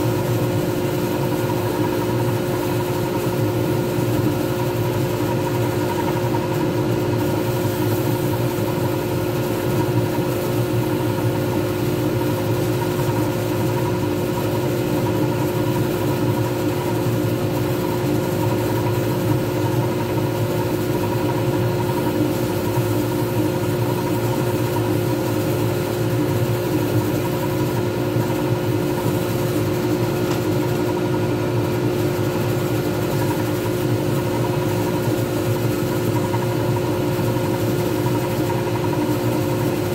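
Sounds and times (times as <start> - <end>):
lathe motor humming: 0.0 - 39.9
sanding pad on spinning wood: 0.0 - 39.9.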